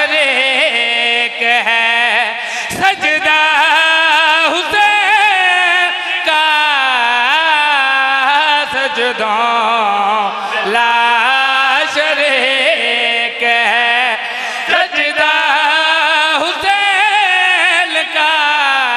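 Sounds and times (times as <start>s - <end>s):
man singing devotional recitation: 0.0s - 18.9s.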